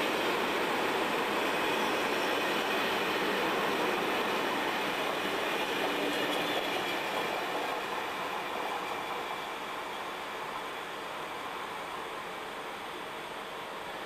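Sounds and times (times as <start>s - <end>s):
train wheels on rail: 0.0s - 14.0s.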